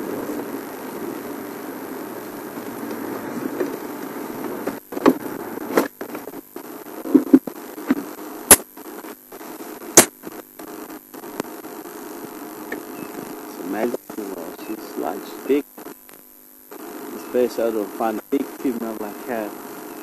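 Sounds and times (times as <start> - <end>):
transmission clicks and crackles: 0.0 - 20.0.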